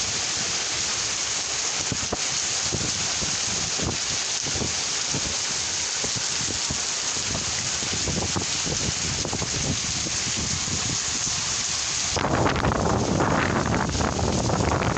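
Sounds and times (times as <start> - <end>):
heavy rain hiss: 0.0 - 14.9
raindrops pattering and splashing: 0.0 - 14.9.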